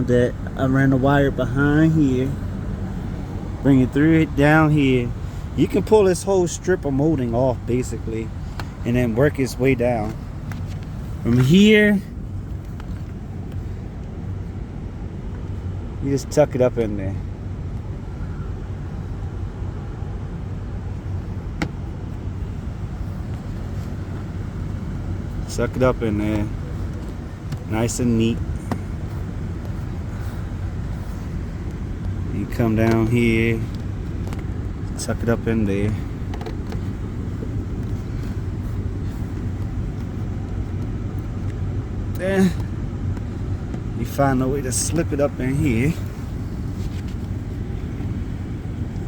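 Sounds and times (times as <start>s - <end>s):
car humming: 0.0s - 49.0s.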